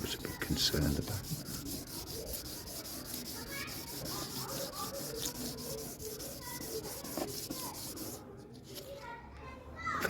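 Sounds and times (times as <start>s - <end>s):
sandpaper rubbing on plastic: 0.0s - 8.3s.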